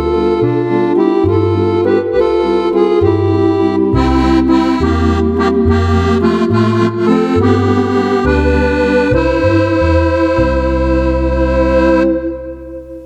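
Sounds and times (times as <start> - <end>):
accordion playing a tune: 0.0 - 13.0.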